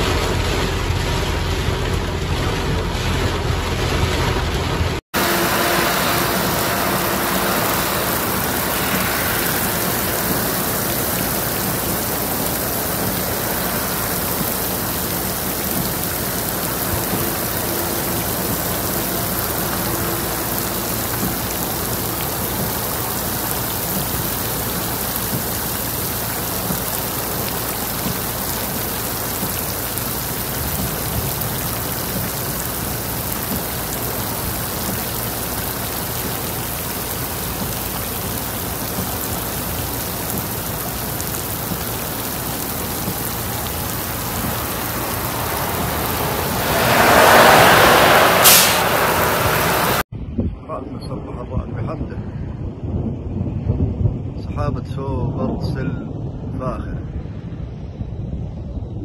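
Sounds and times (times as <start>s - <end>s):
heavy rain pouring: 0.0s - 50.1s
low car rumble: 0.0s - 50.1s.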